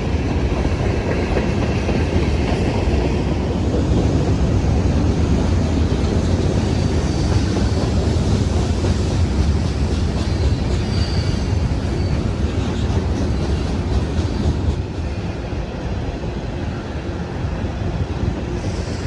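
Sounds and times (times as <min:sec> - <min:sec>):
rail joint clicks: 0:00.0 - 0:15.6
train wheels rumbling on rails: 0:00.0 - 0:19.0.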